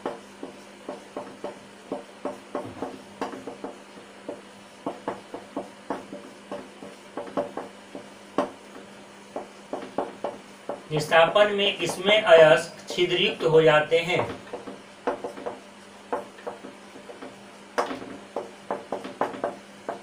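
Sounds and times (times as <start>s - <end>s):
marker pen writing on whiteboard: 0.0s - 13.1s, 14.0s - 20.0s.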